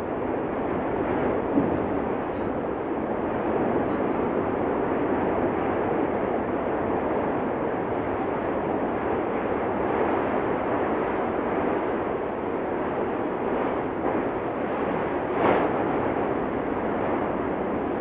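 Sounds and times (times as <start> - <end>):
volcanic eruption roar: 0.0 - 18.0.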